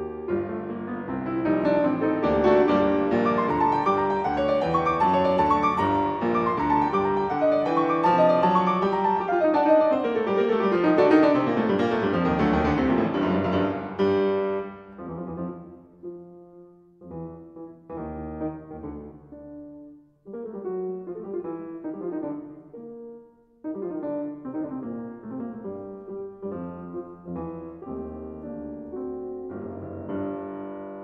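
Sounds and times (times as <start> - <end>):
piano music with flowing runs: 0.0 - 31.0.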